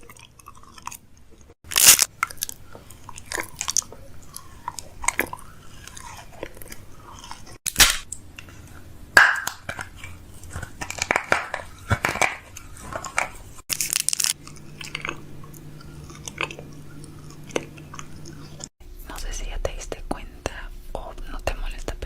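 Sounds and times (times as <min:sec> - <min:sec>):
person chewing crunchy food: 0:00.0 - 0:18.7.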